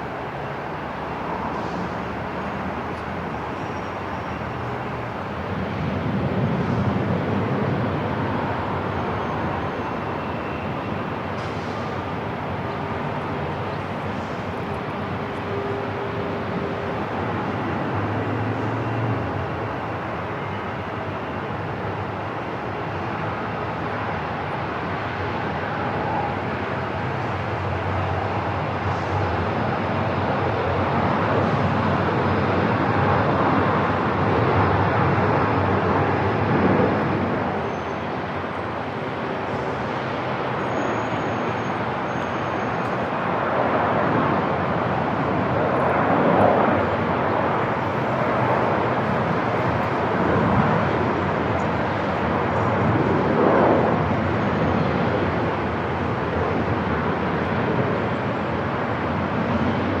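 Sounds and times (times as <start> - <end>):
low jet engine noise: 0.0 - 60.0.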